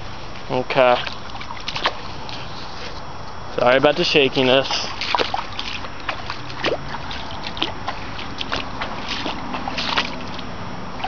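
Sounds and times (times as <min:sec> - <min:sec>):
water trickling into pond: 0:00.0 - 0:02.9, 0:03.8 - 0:11.0.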